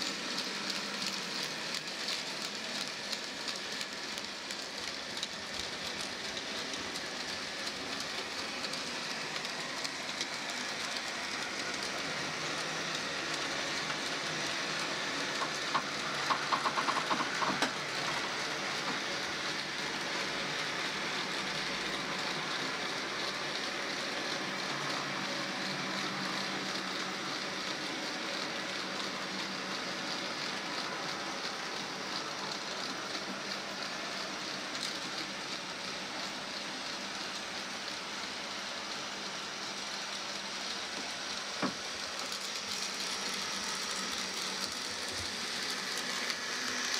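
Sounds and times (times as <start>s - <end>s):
model train wheels rolling on rails: 0.0s - 46.9s.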